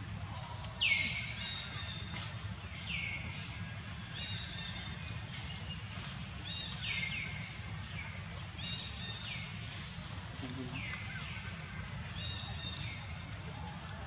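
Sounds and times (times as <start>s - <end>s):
low steady background rumble: 0.0s - 14.0s.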